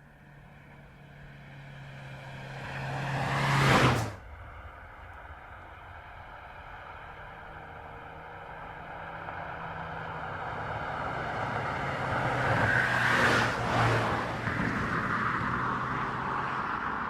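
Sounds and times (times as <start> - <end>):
car driving past: 0.2 - 17.0.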